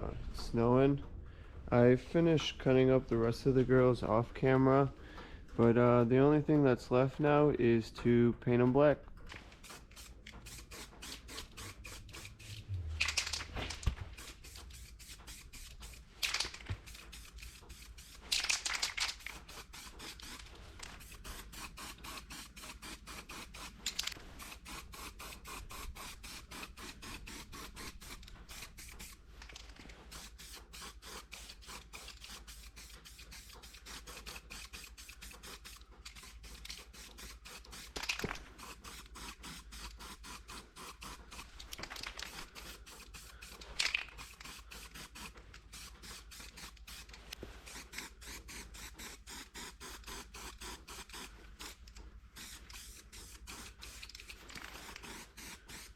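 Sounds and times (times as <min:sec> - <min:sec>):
spray paint can hissing: 0:09.4 - 0:55.9.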